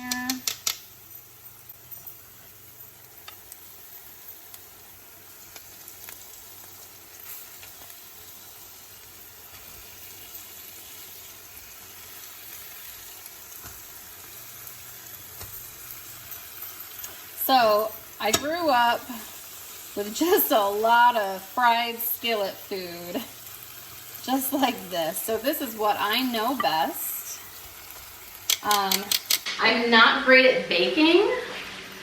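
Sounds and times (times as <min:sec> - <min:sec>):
food sizzling in hot oil: 0:00.0 - 0:29.7.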